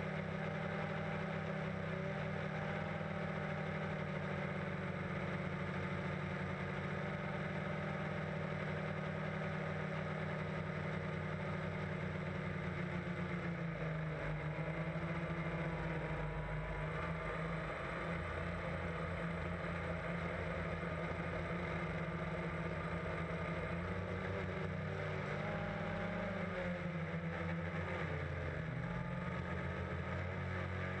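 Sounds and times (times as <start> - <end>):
drone motors droning: 0.0 - 31.0.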